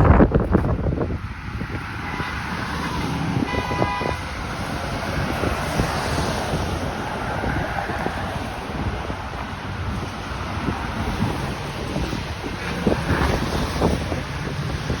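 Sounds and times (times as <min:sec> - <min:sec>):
city traffic rumble: 0:00.0 - 0:15.0
wind on microphone: 0:00.0 - 0:15.0.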